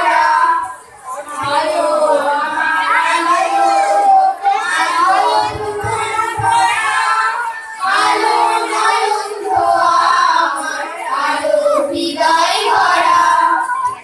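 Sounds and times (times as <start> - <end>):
girls singing together: 0.0 - 14.0.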